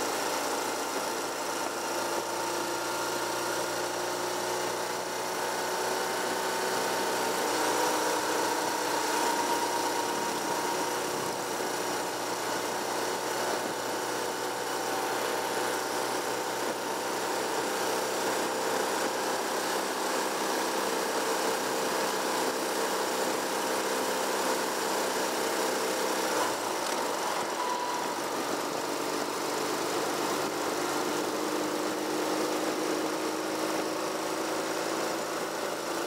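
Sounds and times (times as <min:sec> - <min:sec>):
vehicle engine running: 0:00.0 - 0:36.0.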